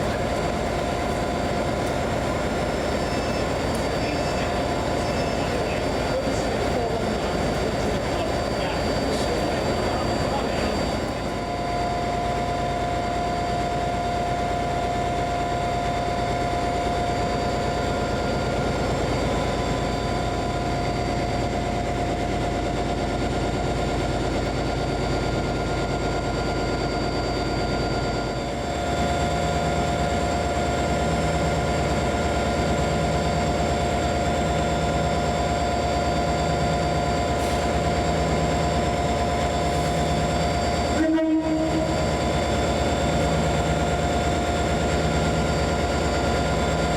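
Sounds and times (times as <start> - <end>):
diesel locomotive engine idling: 0.0 - 46.9.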